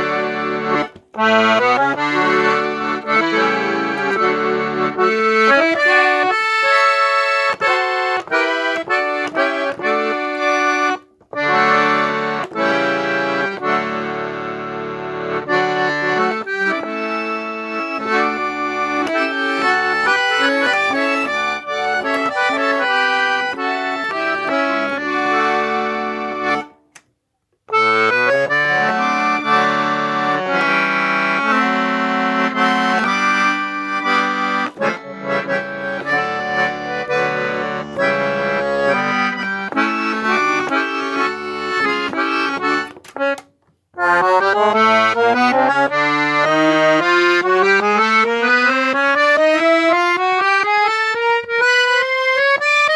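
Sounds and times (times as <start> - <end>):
accordion playing chords: 0.0 - 52.9.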